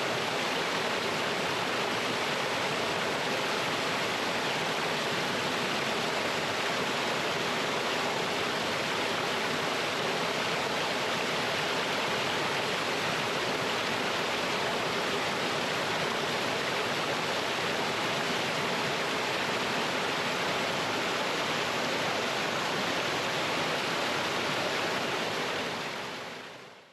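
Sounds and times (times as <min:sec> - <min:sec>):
water rushing over rocks: 0:00.0 - 0:26.6.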